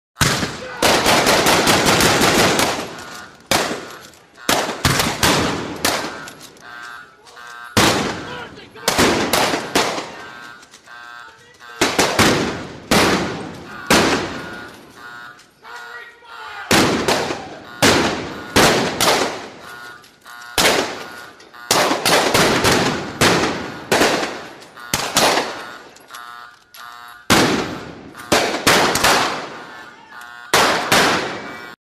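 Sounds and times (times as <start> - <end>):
echoing gunshots: 0.2 - 6.6, 7.8 - 10.7, 11.7 - 15.4, 16.7 - 20.0, 20.6 - 26.0, 27.3 - 29.9, 30.5 - 31.8.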